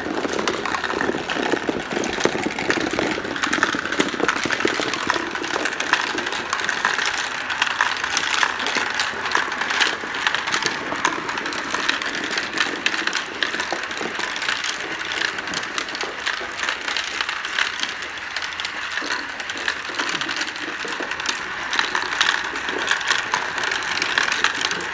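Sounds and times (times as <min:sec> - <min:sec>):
marbles rolling in plastic funnels: 0:00.0 - 0:24.9.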